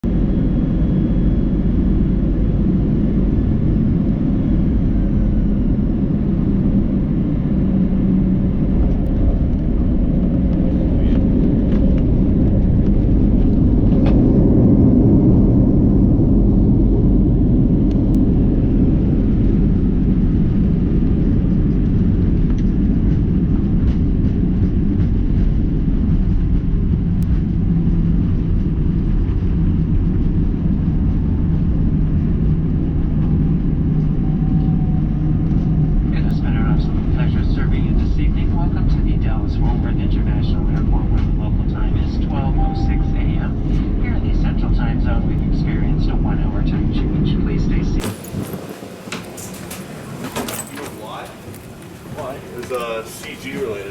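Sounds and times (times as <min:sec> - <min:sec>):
aircraft engine rumble: 0:00.0 - 0:53.9.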